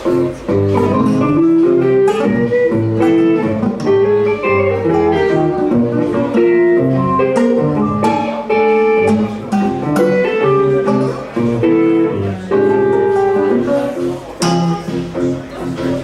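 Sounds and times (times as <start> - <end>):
bass notes: 0.0 - 16.0
guitar plucking quick melody: 0.0 - 16.0.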